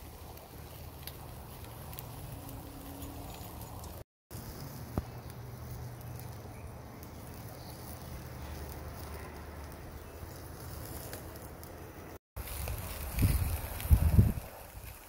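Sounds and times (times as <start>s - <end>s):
faint crackles: 0.0s - 15.0s
steak sizzling on grill: 0.0s - 15.0s.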